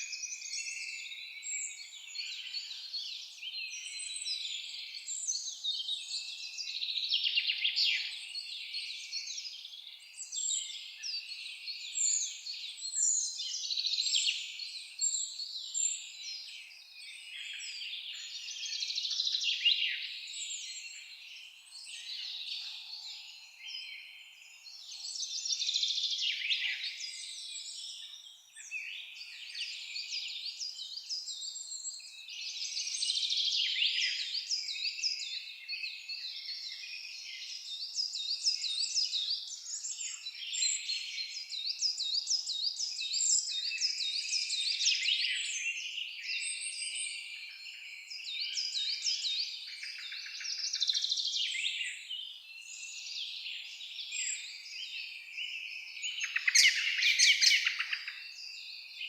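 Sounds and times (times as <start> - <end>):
chorus of songbirds: 0.0 - 59.0.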